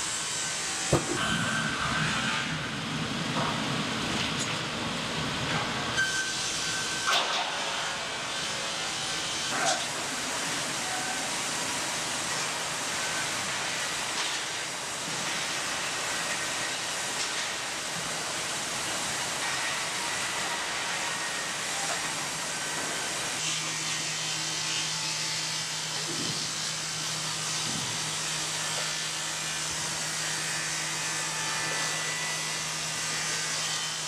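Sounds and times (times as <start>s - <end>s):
woodworking machinery hissing: 5.2s - 34.0s.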